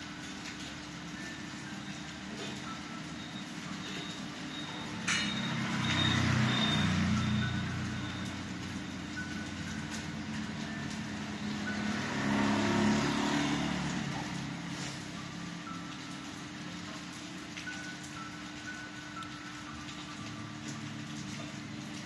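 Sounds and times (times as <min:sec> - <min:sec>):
steady rain: 0:00.0 - 0:22.0
vehicles passing on wet road: 0:00.0 - 0:22.0.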